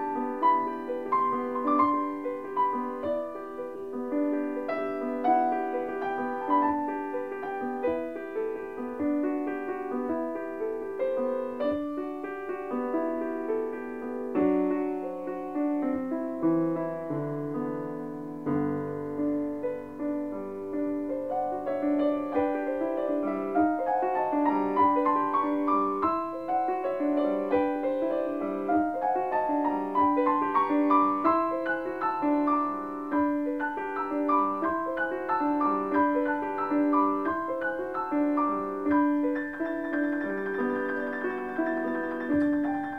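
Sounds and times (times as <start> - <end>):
piano music: 0.0 - 42.9.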